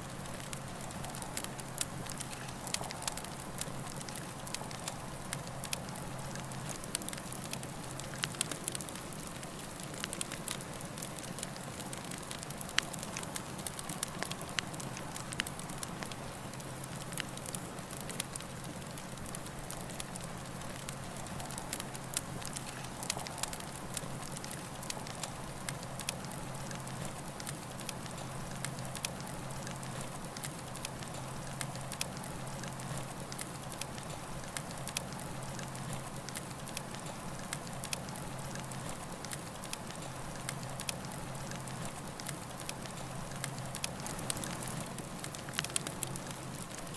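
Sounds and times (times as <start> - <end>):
campfire hissing: 0.0 - 46.9
fire crackles and pops: 0.0 - 46.9.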